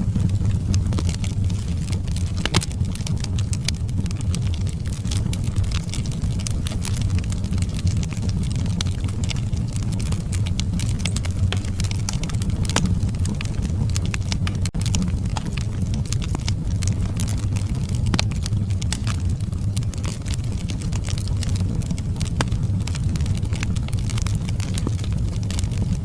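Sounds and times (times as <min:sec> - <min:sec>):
fire crackling and popping: 0:00.0 - 0:26.0
wood fire burning: 0:00.0 - 0:26.0.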